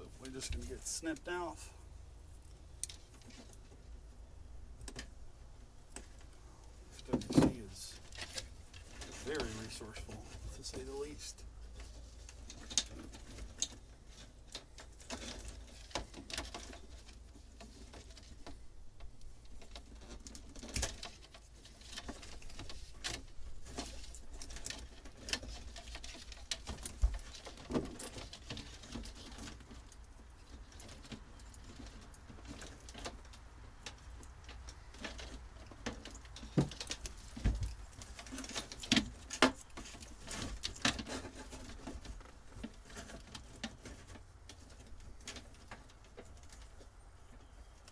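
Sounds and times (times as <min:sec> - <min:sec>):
wires rustling and scraping: 0:00.0 - 0:47.9.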